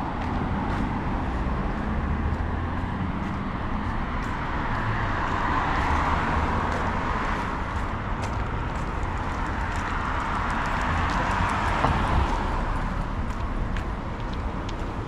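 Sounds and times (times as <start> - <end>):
cars passing with tyre noise: 0.0 - 15.0.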